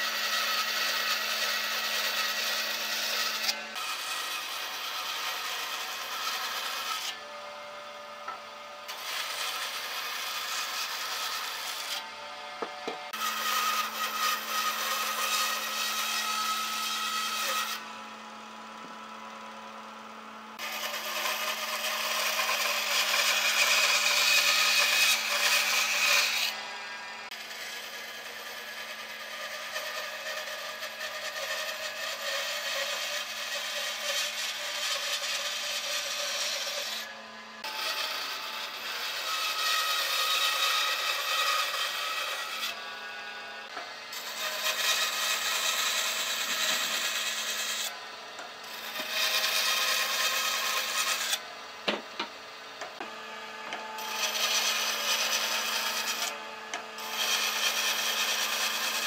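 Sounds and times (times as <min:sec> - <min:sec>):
bandsaw blade rasping through wood: 0:00.0 - 0:59.0
saw motor hum: 0:00.0 - 0:59.0.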